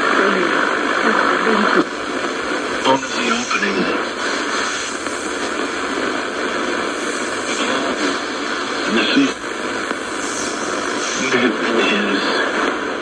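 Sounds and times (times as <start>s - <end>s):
radio static hissing: 0.0s - 13.0s.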